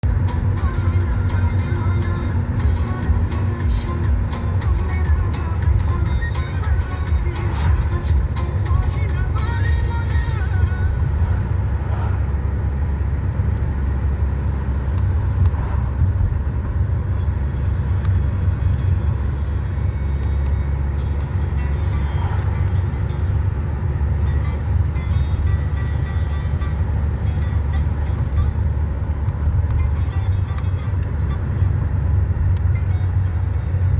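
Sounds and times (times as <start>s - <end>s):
vehicle rumble in motion: 0.0s - 33.9s.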